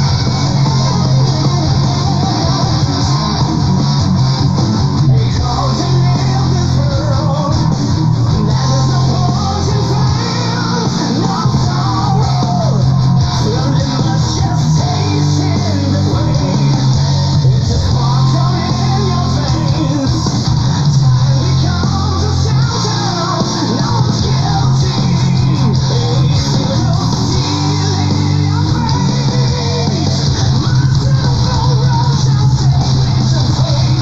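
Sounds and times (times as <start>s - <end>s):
person singing: 0.0s - 4.0s, 4.9s - 34.0s
bass guitar: 0.0s - 34.0s
distorted guitars: 0.0s - 34.0s
drums: 0.0s - 34.0s.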